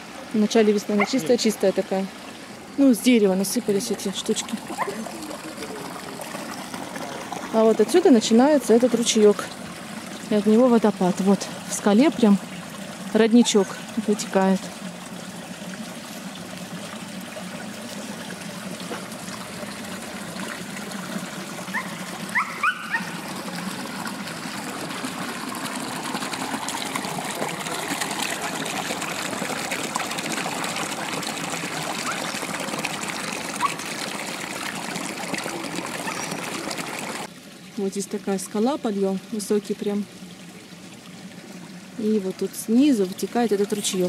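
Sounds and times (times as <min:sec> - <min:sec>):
water trickling into stream: 0:00.0 - 0:44.0.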